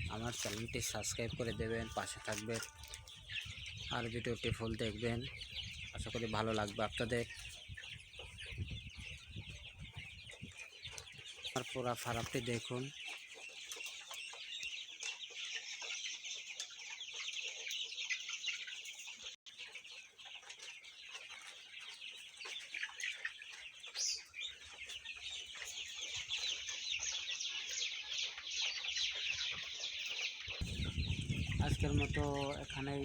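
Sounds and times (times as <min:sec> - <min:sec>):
chicks peeping and clucking: 0:00.0 - 0:33.0.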